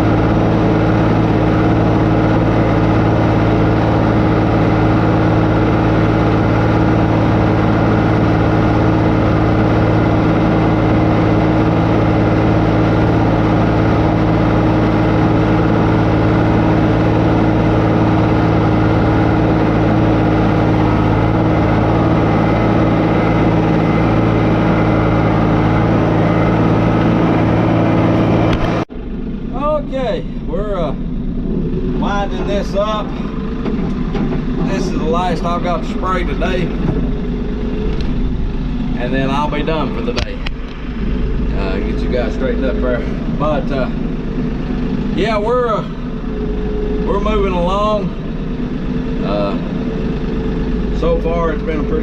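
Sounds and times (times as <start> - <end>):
engine running with even hum: 0.0 - 52.0.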